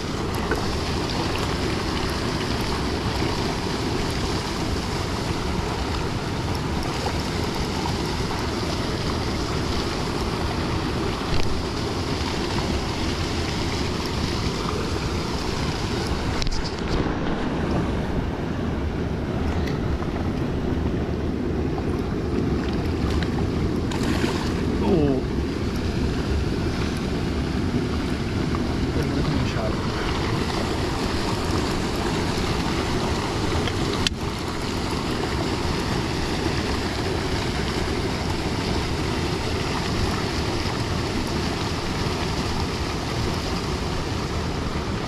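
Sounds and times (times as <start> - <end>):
river water flowing: 0.0 - 45.0.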